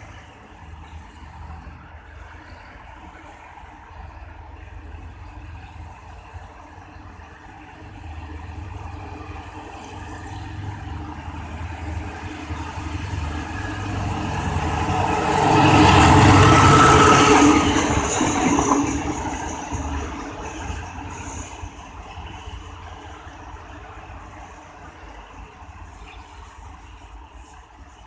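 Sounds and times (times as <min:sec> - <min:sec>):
diesel locomotives passing: 0:00.0 - 0:28.0.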